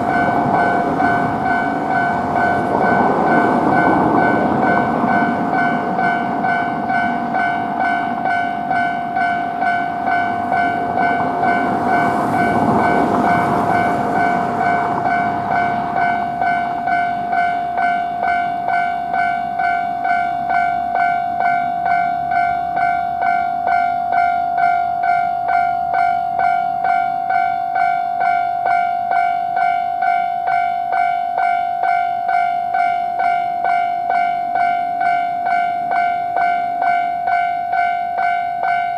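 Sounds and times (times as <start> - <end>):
level crossing bell ringing: 0.0 - 38.9
train passing: 0.0 - 38.9.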